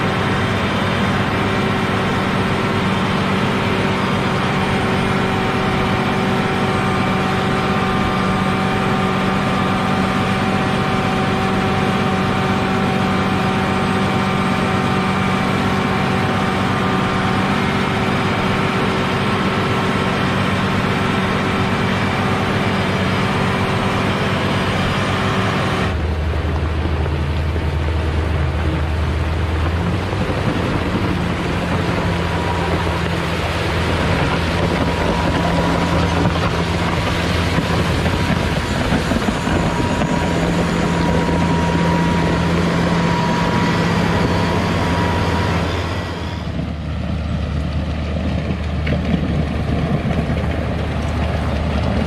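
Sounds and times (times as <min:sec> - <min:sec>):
low hum: 0:00.0 - 0:52.0
motor grader diesel engine: 0:00.0 - 0:52.0.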